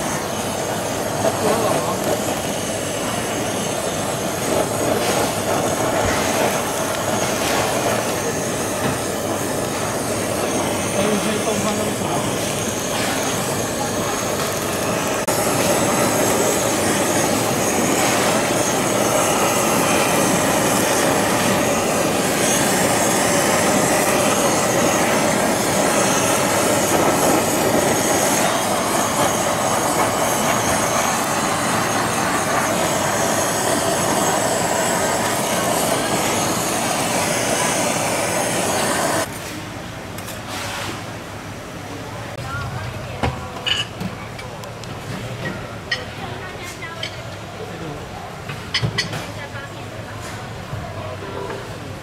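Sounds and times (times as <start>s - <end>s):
kitchen torch roaring hiss: 0.0s - 43.4s.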